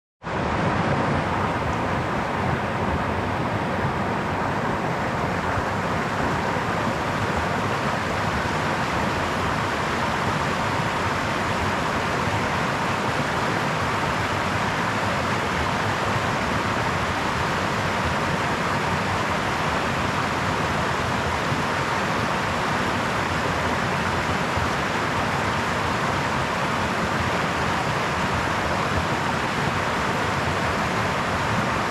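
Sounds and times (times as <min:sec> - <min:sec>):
brook water running: 0:00.2 - 0:31.9.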